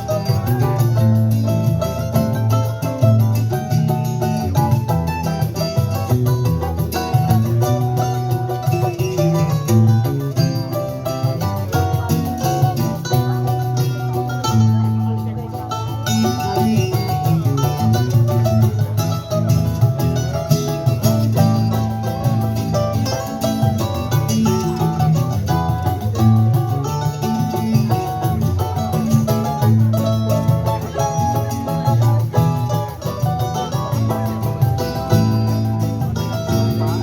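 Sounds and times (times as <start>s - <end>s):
bright plucked string melody: 0.0s - 37.0s
guitar bass line: 0.0s - 37.0s.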